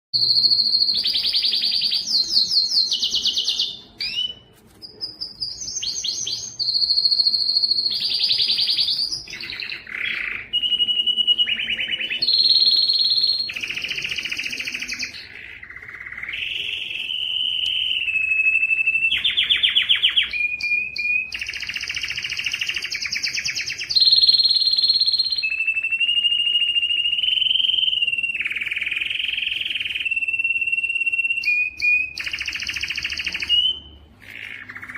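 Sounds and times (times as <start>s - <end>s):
canary singing: 0.2s - 34.9s.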